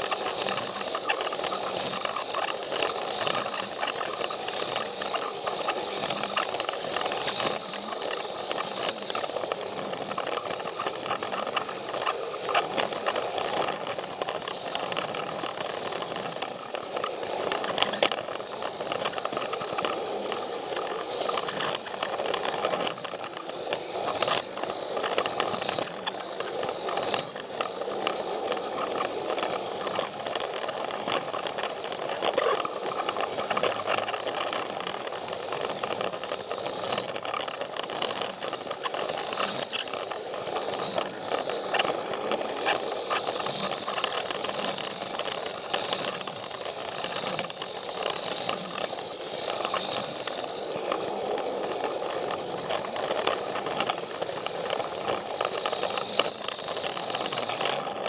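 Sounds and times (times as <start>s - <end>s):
toy train motor whir: 0.0s - 58.0s
wheels rattling over track joints: 0.0s - 58.0s.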